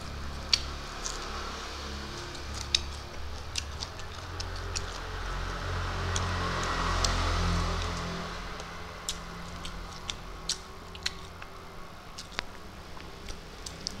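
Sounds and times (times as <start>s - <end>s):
chewing and mouth clicks: 0.0s - 14.0s
steady low hum: 0.0s - 14.0s.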